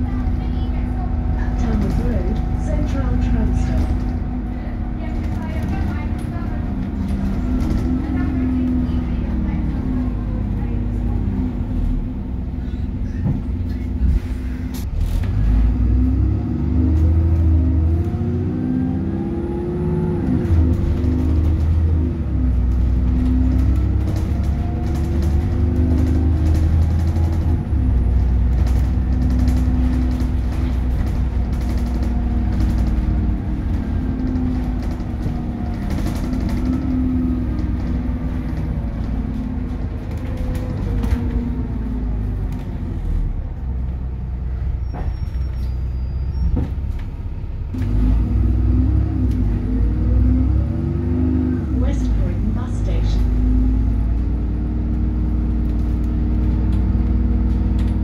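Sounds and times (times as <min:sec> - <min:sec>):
bus engine humming: 0:00.0 - 0:58.0.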